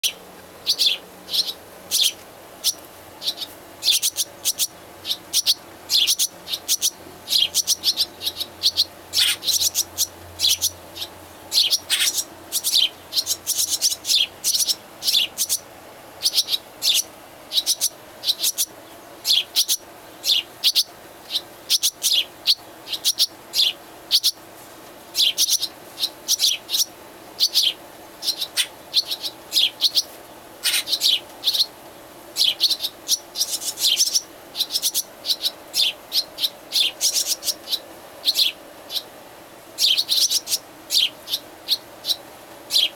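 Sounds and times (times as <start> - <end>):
baby birds chirping: 0.0 - 24.4, 25.1 - 39.2, 39.8 - 42.9.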